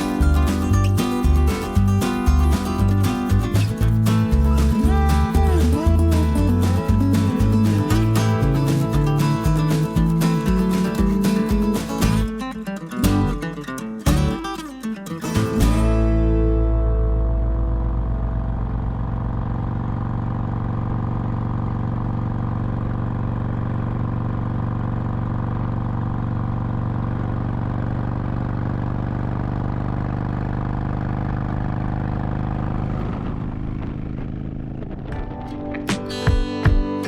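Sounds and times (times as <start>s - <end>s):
motorcycle engine running: 0.0s - 12.4s, 15.6s - 36.9s.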